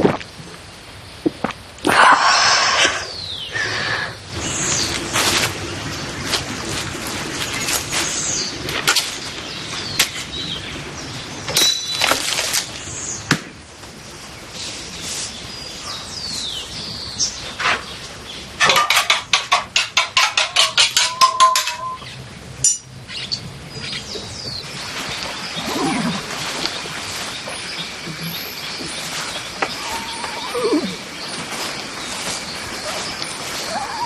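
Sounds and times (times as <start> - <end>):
birds chirping: 2.3 - 13.3, 13.9 - 34.0.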